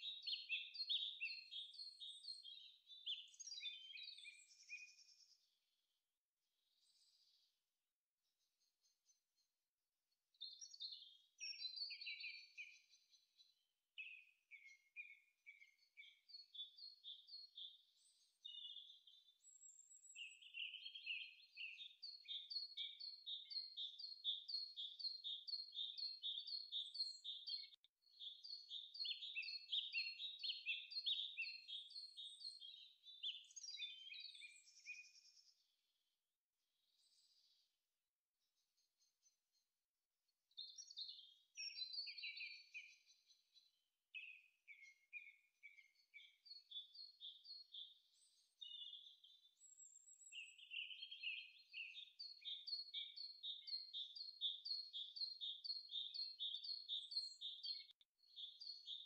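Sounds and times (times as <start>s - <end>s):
songbirds chirping: 0.0s - 5.6s, 6.7s - 7.6s, 10.3s - 35.8s, 40.5s - 59.0s.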